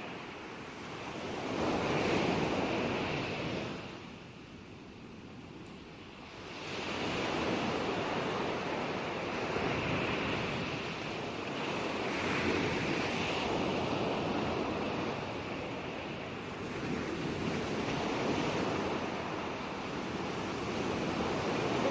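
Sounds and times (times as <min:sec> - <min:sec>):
ocean waves washing onto shore: 0:00.0 - 0:21.9.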